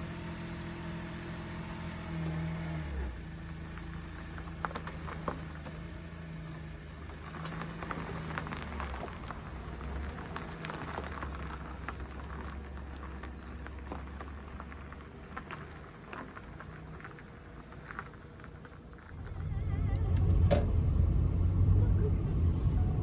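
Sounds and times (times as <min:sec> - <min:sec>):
insects chorus: 0:00.0 - 0:19.7
low hum: 0:03.1 - 0:23.0.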